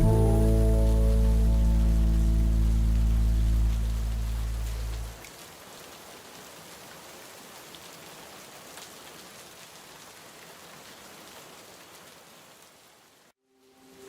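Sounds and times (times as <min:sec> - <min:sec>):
rain patter: 0:00.0 - 0:13.4.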